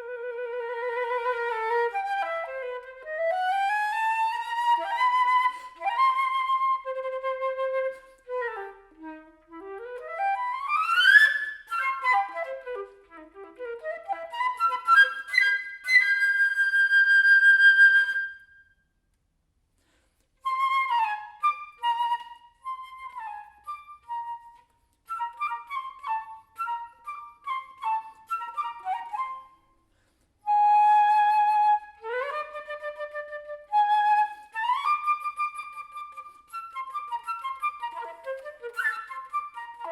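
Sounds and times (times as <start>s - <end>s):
solo flute playing: 0.0s - 18.8s, 20.4s - 29.8s, 30.4s - 39.9s.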